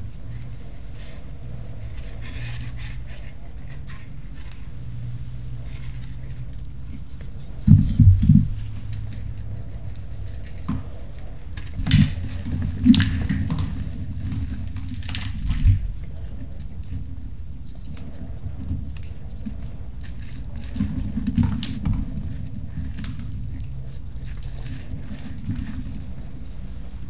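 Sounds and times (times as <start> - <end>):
chalk blocks crushing: 0.0 - 4.9, 5.5 - 27.0.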